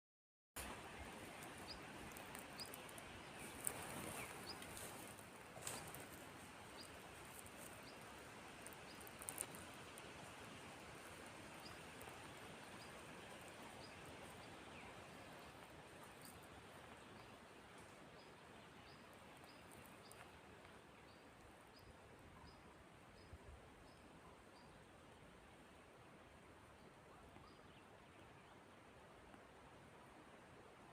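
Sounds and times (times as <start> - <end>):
soft steady hiss: 0.6 - 30.9.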